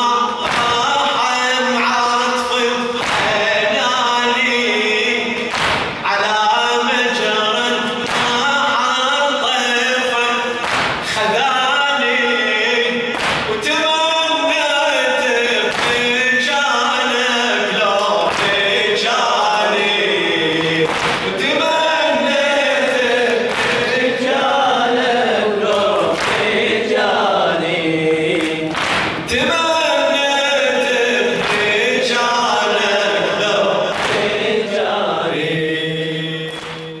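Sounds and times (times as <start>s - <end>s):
congregation chanting in chorus: 0.0s - 37.0s
man chanting over a microphone: 0.0s - 37.0s.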